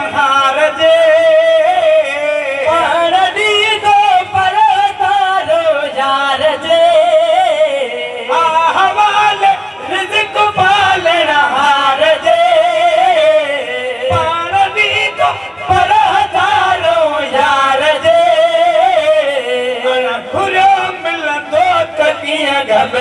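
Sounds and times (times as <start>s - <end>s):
men singing into microphones: 0.0s - 23.0s.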